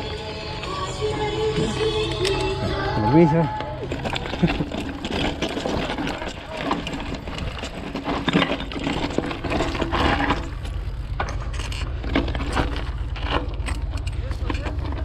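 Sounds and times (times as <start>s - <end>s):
bike tyres crunching on gravel: 0.0s - 15.0s
bike frame rattling and clicking: 2.0s - 15.0s.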